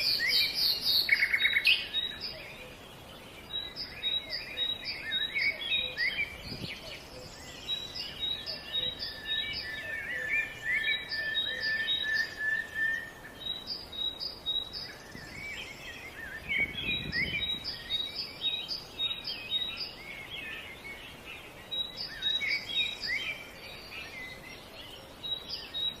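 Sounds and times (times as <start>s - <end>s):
long steady bird trill: 0.0s - 26.0s
wild birds singing and chirping: 0.0s - 26.0s.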